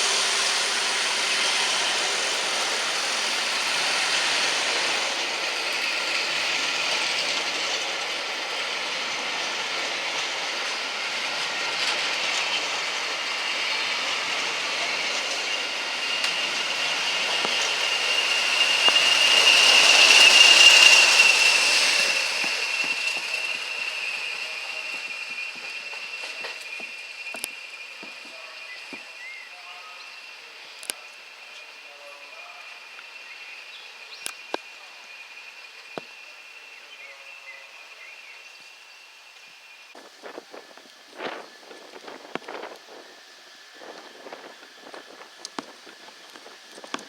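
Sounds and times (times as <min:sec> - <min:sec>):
high steady whine: 0:00.0 - 0:47.0
train running on rails: 0:00.0 - 0:47.0.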